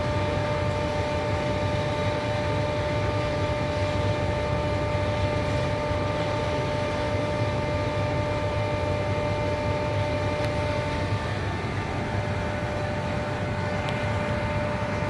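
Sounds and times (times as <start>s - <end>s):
machine running with rumble and hiss: 0.0s - 15.0s
steady whining tones: 0.0s - 15.0s.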